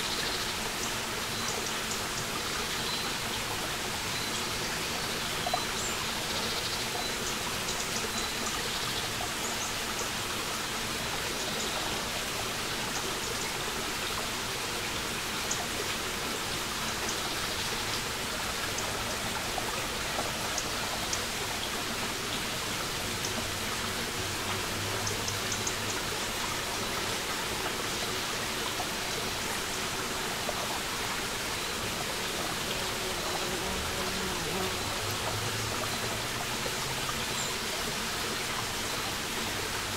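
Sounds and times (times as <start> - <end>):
brook running over stones: 0.0 - 39.9.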